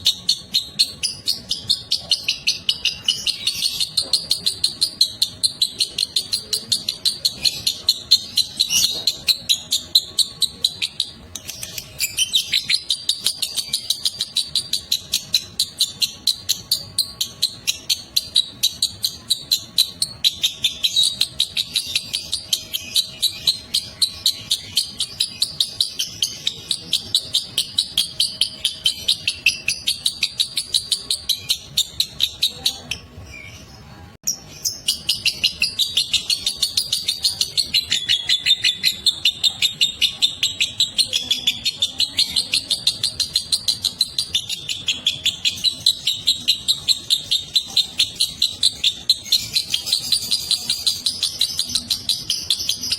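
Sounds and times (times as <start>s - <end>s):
lovebird chattering high chirps: 0.0s - 52.9s.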